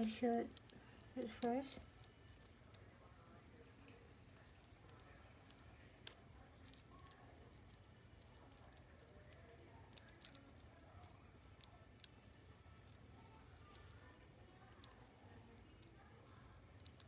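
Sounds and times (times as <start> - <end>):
plastic bracelet links clicking: 0.0 - 2.9, 4.6 - 12.2, 12.8 - 17.0.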